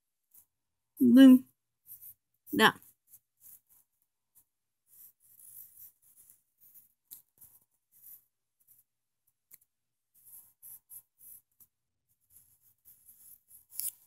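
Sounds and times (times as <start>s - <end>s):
pencil scratching on paper: 1.5s - 14.0s.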